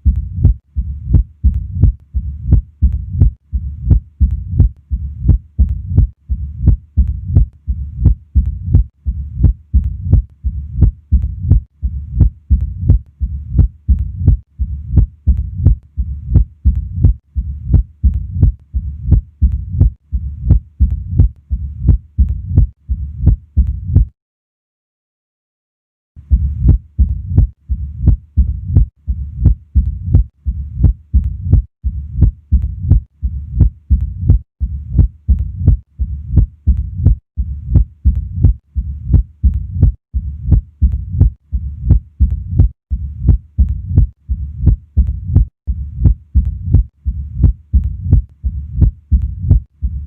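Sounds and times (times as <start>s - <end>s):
low rumbling heart murmur: 0.0s - 24.1s, 26.3s - 50.0s
snapping heart sounds: 0.0s - 24.2s, 26.3s - 50.0s.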